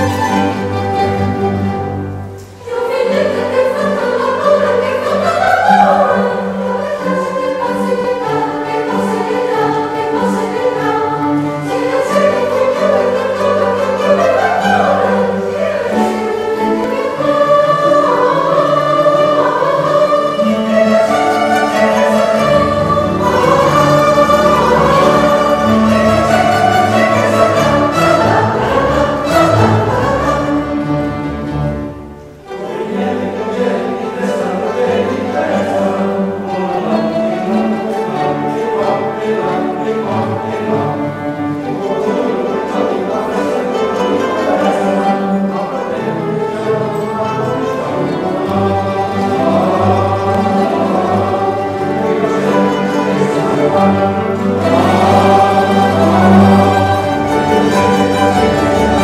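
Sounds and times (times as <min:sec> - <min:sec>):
mandolin orchestra: 0:00.0 - 0:59.0
mixed choir singing: 0:00.0 - 0:59.0.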